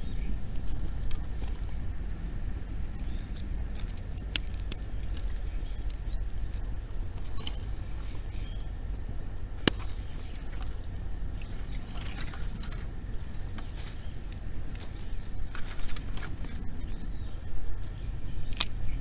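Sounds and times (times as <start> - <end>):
low rumble of fire: 0.0 - 19.0
wood fire crackling: 0.0 - 19.0.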